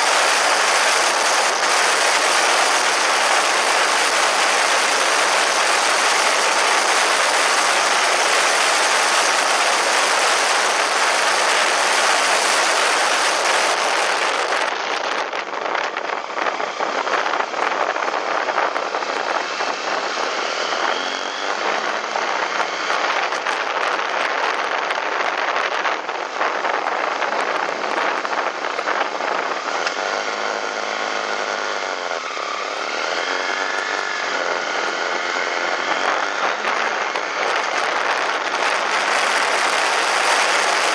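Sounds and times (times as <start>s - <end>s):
heavy wind rush: 0.0s - 40.9s
motorcycle engine rising and falling: 0.0s - 40.9s.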